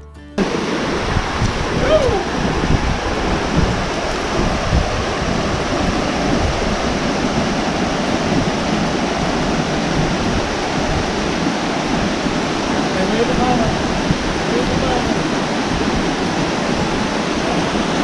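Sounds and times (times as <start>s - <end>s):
fast-flowing water rushing: 0.4s - 18.0s.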